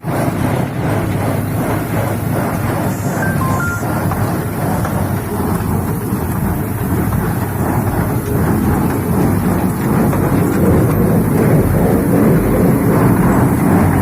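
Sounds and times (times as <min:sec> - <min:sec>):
tractor and baler rumbling: 0:00.0 - 0:14.0.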